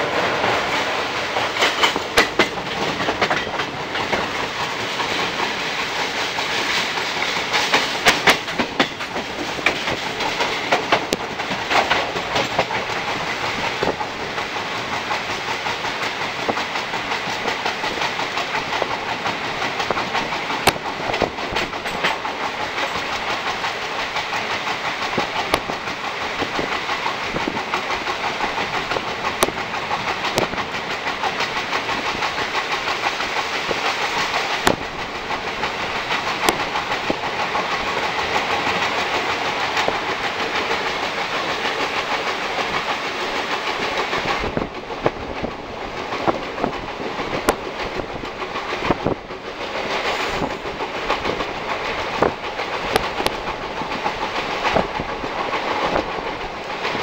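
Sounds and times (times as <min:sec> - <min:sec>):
train wheel clatter: 0:00.0 - 0:57.0.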